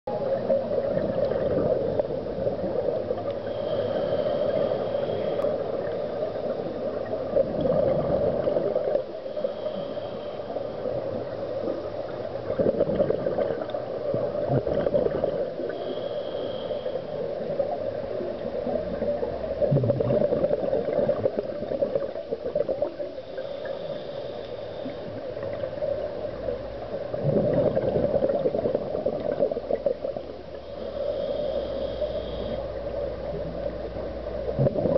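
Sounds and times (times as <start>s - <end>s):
regulator exhale bubbling underwater: 0.2s - 10.0s, 10.8s - 16.0s, 16.6s - 24.0s, 26.9s - 34.9s.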